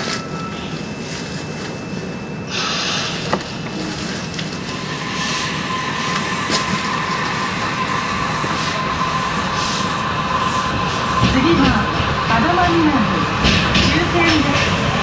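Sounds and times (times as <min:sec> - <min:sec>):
steady whine: 0:00.0 - 0:15.0
subway car running rumble: 0:00.0 - 0:15.0.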